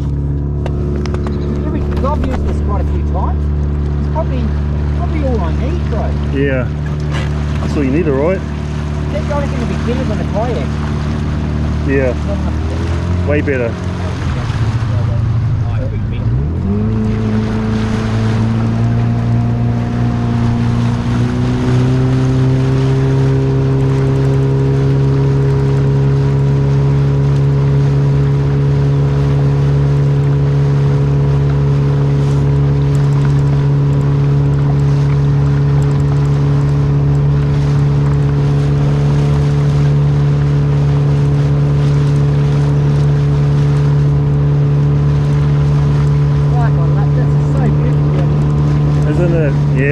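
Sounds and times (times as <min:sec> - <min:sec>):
outboard motor drone: 0:00.0 - 0:49.9
rushing water: 0:00.0 - 0:49.9.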